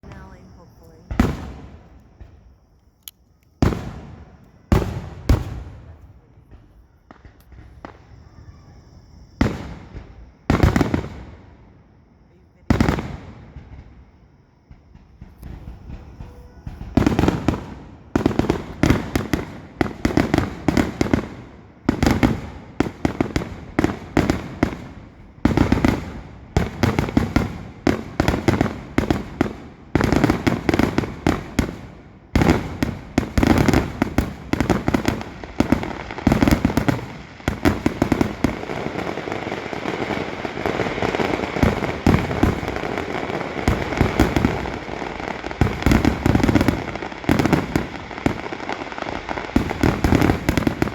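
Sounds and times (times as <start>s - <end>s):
fireworks bangs: 0.0s - 2.7s, 3.6s - 50.9s
fireworks crackling: 3.6s - 8.4s, 9.2s - 11.6s, 12.3s - 50.9s.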